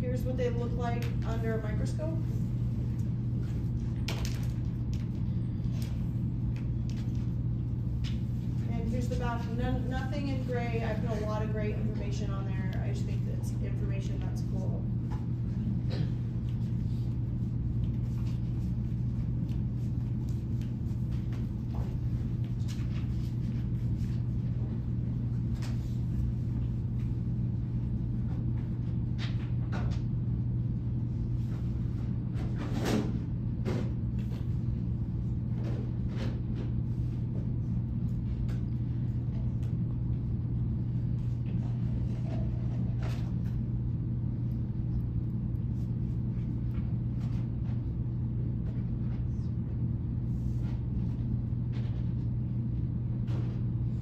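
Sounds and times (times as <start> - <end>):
low room hum: 0.0 - 54.0.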